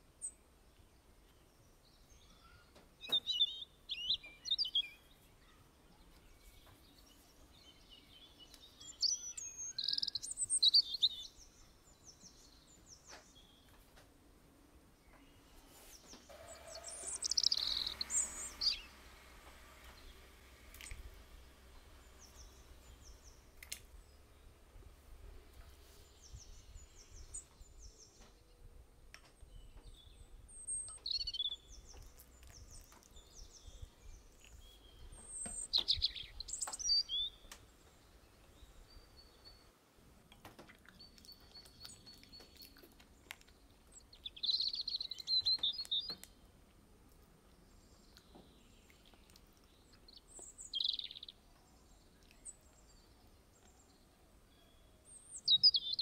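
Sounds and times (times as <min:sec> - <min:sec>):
birds chirping and singing: 0:01.5 - 0:13.9, 0:15.0 - 0:39.7, 0:40.8 - 0:46.6, 0:47.5 - 0:56.0.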